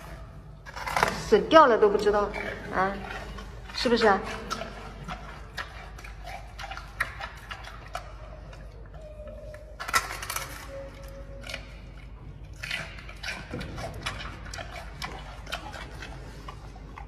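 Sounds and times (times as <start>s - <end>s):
panda crunching bamboo: 2.3s - 8.6s, 9.2s - 17.0s.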